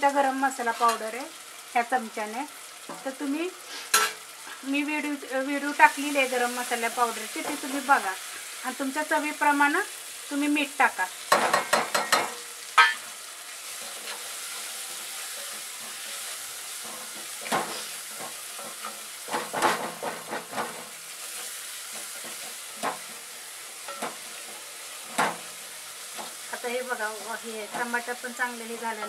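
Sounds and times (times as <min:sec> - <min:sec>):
food sizzling in a pot: 0:00.0 - 0:29.0.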